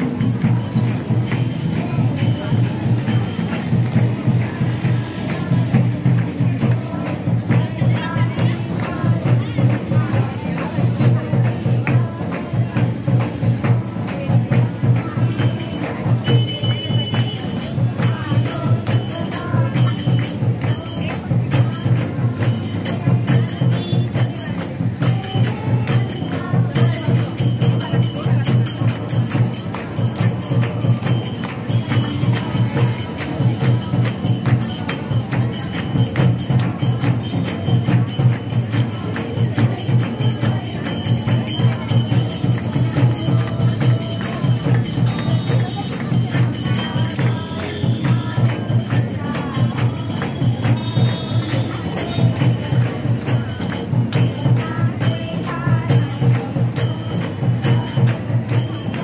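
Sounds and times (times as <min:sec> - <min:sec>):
devotional music with jingling percussion: 0:00.0 - 0:59.0.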